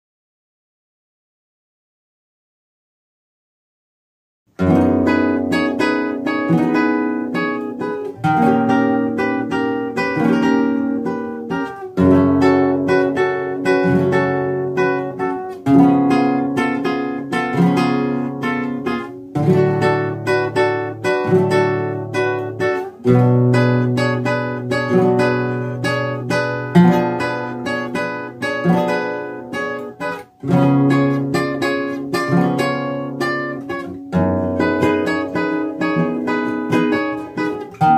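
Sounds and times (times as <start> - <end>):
nylon-string guitar strumming: 4.6 - 37.9.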